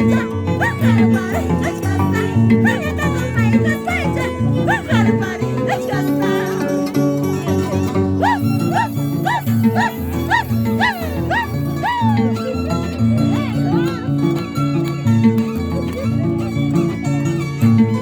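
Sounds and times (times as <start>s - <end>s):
harp music: 0.0s - 18.0s.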